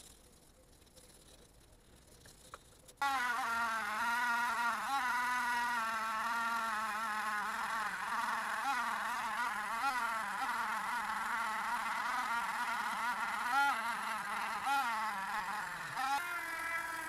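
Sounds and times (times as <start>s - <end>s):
rotary tool wire brush whine: 0.0s - 17.0s.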